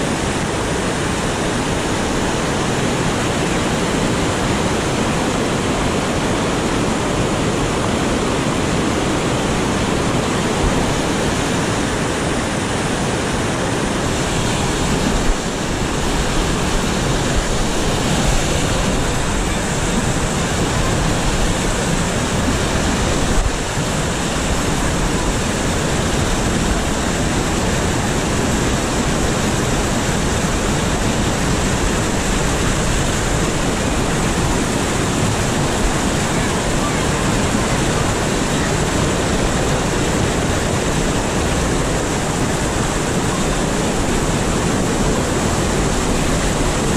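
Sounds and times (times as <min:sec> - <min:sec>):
river rapids roaring: 0:00.0 - 0:46.9.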